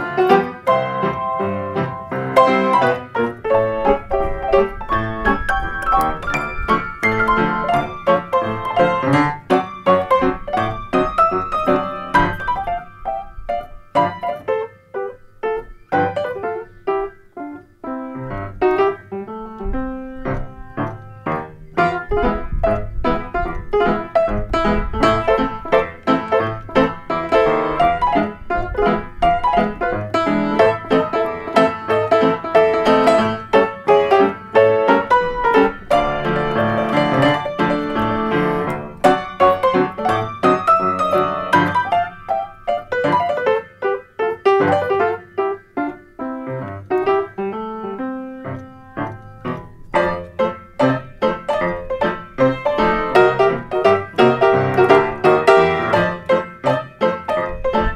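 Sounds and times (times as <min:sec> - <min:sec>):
ragtime piano: 0:00.0 - 0:57.9.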